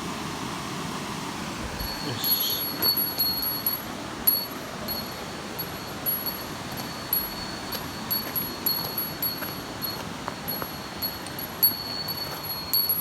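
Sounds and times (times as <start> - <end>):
waterfall rushing: 0.0 - 12.0
thin high ringing: 1.7 - 13.0.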